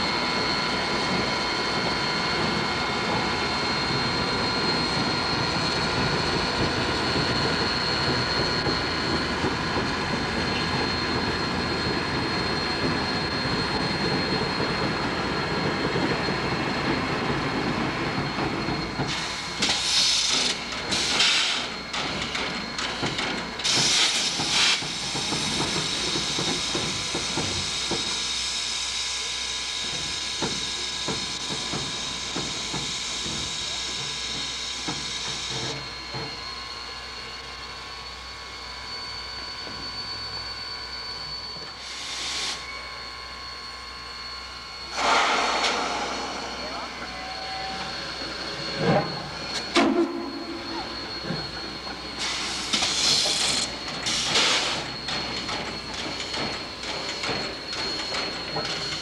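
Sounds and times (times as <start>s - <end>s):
mechanical drone with high whine: 0.0s - 59.0s
steam hissing: 0.1s - 22.8s, 23.4s - 36.4s, 41.2s - 43.0s, 44.6s - 59.0s.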